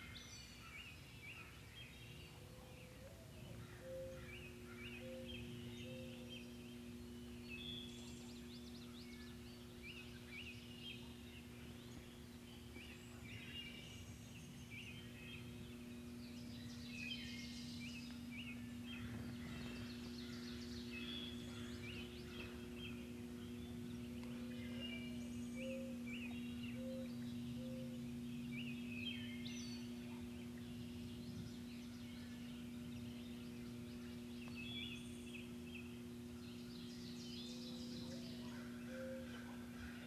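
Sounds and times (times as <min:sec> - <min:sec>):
songbirds chirping: 0:00.0 - 0:40.0
steady low hum: 0:00.0 - 0:40.0.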